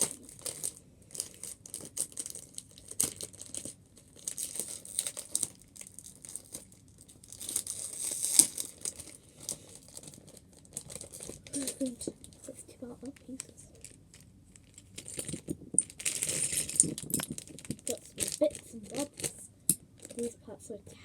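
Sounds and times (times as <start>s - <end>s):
plastic packaging crinkling: 0.0s - 20.4s.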